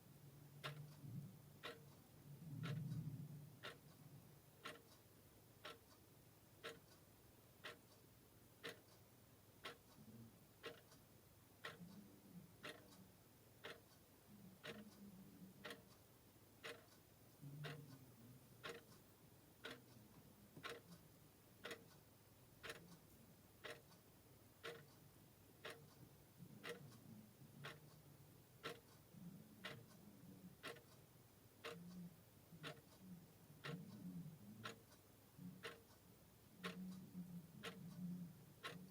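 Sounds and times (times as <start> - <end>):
clock ticking: 0.3 - 38.9.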